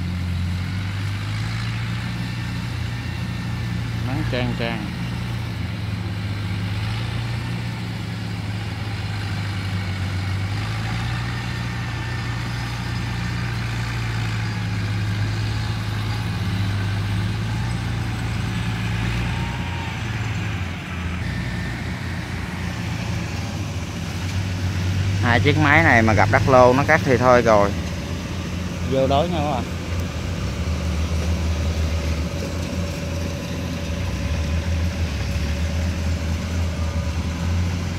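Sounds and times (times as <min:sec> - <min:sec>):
tracked carrier engine droning: 0:00.0 - 0:37.9.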